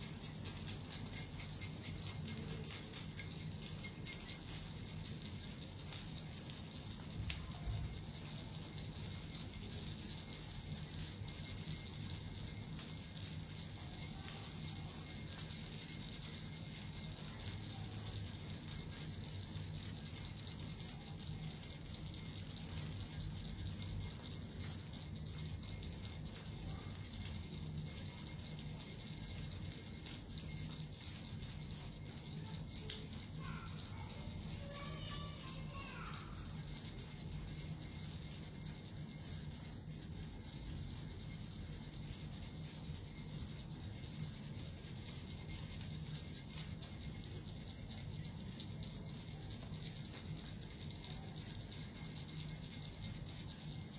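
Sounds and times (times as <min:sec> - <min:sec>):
bells and metal rattle jingling: 0:00.0 - 0:53.9.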